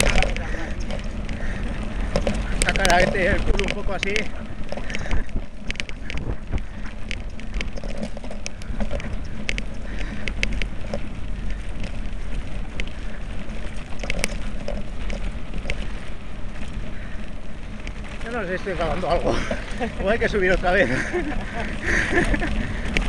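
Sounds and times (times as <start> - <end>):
bike clicks and rattles: 0.0 - 23.0
tyres rolling over dirt: 0.0 - 23.0
wind rumbling on microphone: 0.0 - 23.0.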